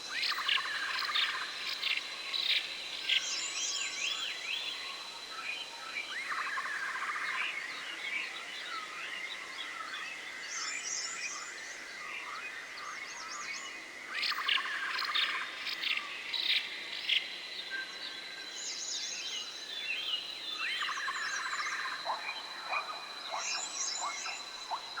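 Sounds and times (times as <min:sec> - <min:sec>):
insect drone: 0:00.0 - 0:25.0.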